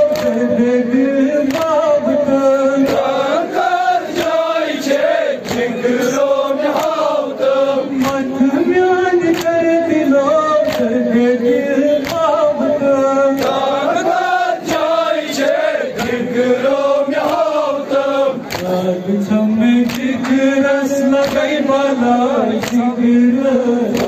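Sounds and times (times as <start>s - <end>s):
men chanting in unison: 0.0s - 24.0s
rhythmic chest-beating slaps: 0.0s - 24.0s.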